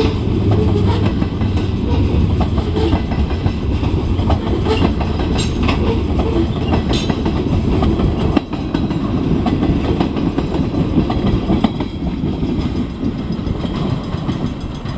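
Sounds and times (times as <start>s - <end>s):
steel wheels rumbling on rail: 0.0s - 14.9s
wheels clicking over rail joints: 0.0s - 14.9s.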